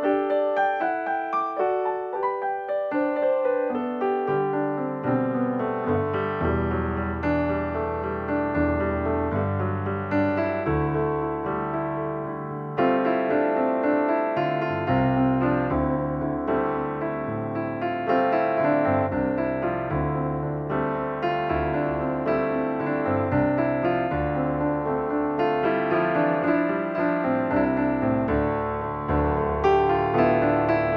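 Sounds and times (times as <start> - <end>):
piano music: 0.0 - 30.9.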